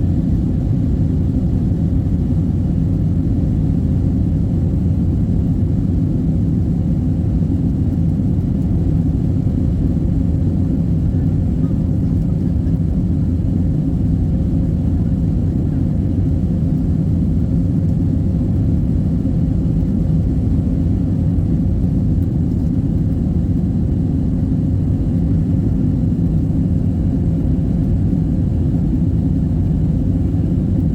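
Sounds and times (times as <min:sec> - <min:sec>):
airliner engine drone and airflow: 0:00.0 - 0:30.9.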